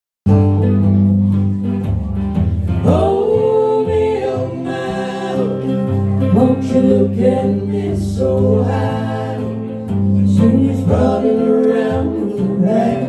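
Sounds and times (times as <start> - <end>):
live blues band playing: 0.3 - 13.0.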